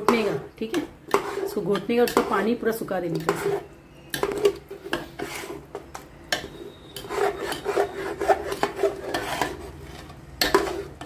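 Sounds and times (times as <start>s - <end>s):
spoon scraping paste in pot: 0.0s - 11.0s.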